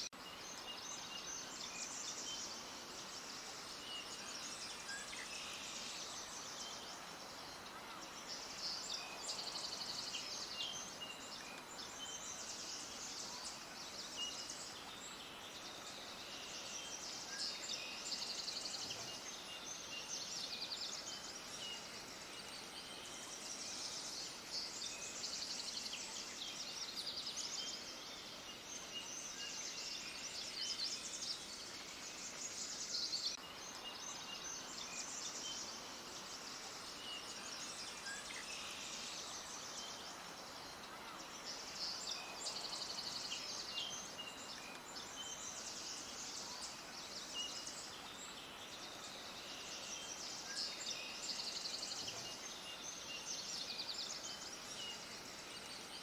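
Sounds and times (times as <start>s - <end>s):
faint hiss: 0.0s - 56.0s
songbirds chirping: 0.0s - 56.0s.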